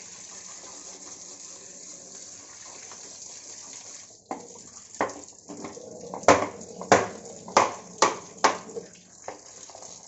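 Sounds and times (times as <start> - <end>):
water running: 0.0 - 10.0.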